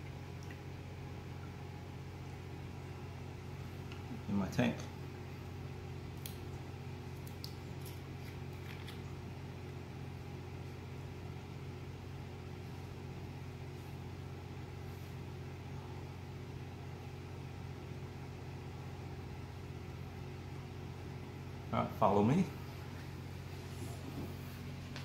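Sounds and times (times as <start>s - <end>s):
aquarium pumps humming: 0.0s - 25.0s.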